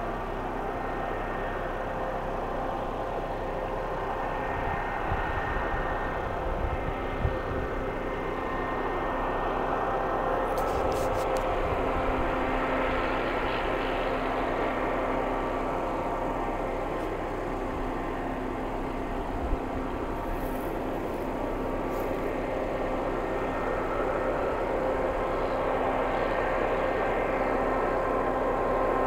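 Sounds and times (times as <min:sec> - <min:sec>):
engine drone: 0:00.0 - 0:29.0
wind buffeting microphone: 0:03.9 - 0:29.0.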